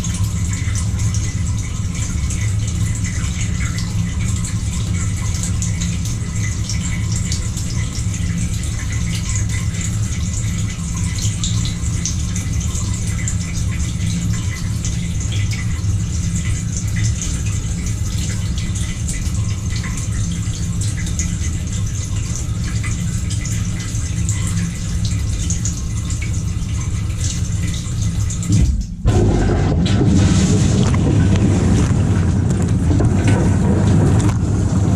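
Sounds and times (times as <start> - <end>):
dishwasher pump humming: 0.0 - 34.9
water spraying inside dishwasher: 0.0 - 34.9.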